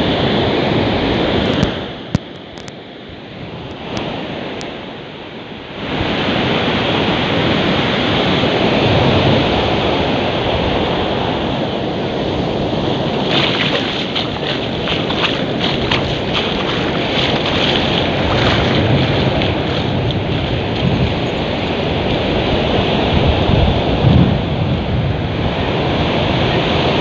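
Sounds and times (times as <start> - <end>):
wind rumbling on microphone: 0.0 - 27.0
storm surf crashing on beach: 3.2 - 27.0.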